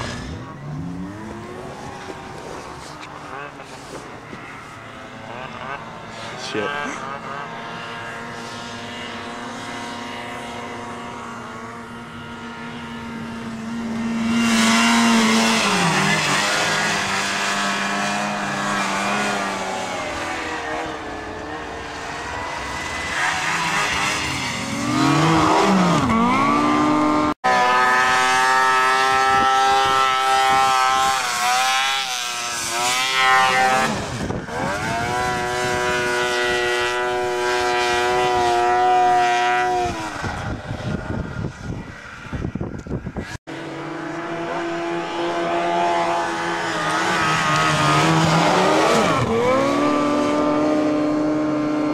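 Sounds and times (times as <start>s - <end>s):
snowmobile engines revving: 0.0s - 51.9s.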